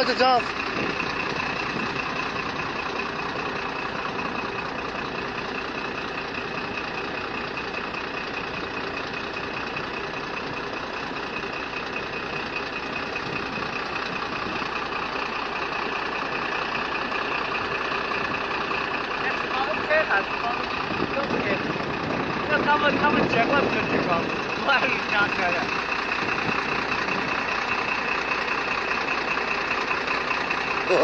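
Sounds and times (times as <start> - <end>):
vehicle running noise: 0.0 - 31.0.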